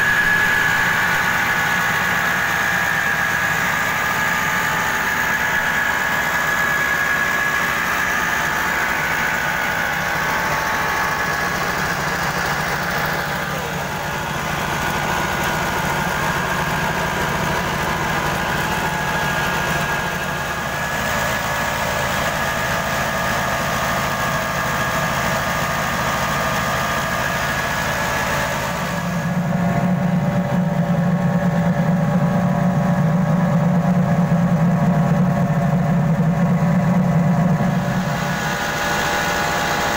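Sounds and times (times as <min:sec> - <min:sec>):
diesel engine running: 0:00.0 - 0:39.9
huller whirring milling grain: 0:00.0 - 0:39.9.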